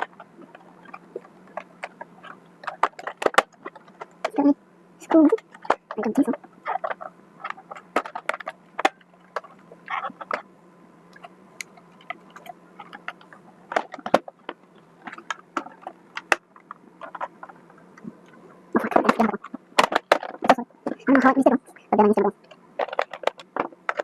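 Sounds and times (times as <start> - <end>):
plastic parts and tools clicking: 0.0 - 4.4, 5.3 - 10.5, 11.1 - 21.1, 22.4 - 24.0
low steady hum: 0.0 - 24.0.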